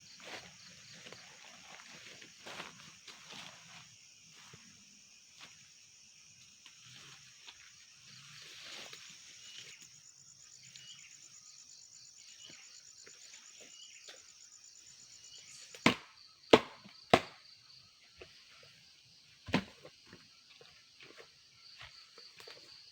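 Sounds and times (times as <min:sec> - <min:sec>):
insects trilling in chorus: 0:00.0 - 0:22.9.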